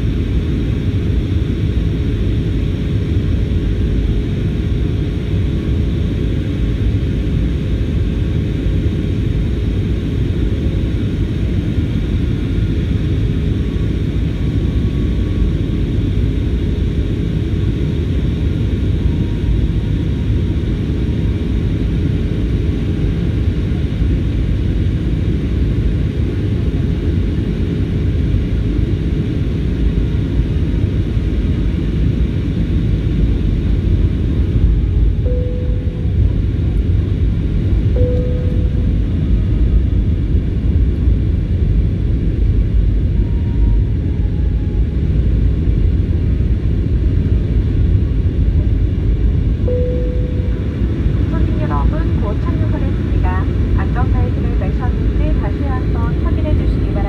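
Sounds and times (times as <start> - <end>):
airliner cabin engine rumble: 0.0 - 57.0
faint steady hum: 0.0 - 57.0.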